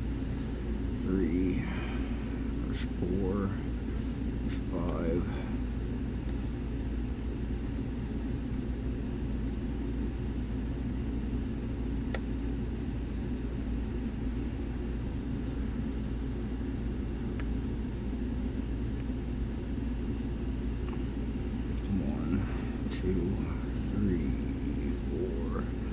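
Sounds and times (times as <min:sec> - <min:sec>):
low background rumble: 0:00.0 - 0:25.9.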